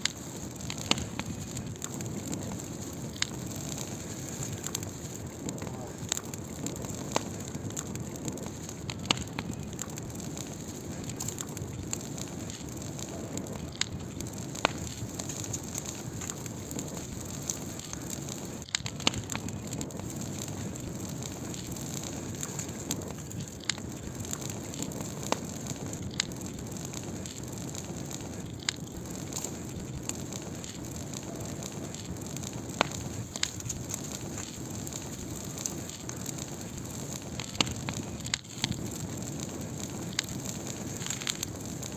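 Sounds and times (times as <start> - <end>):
firewood crackling and popping: 0.0 - 41.9
low rush of flames: 0.0 - 41.9.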